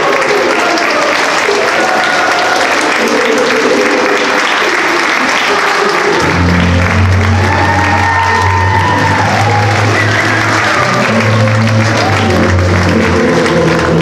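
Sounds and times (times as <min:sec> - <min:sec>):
audience applauding: 0:00.0 - 0:14.0
music playing: 0:00.0 - 0:14.0.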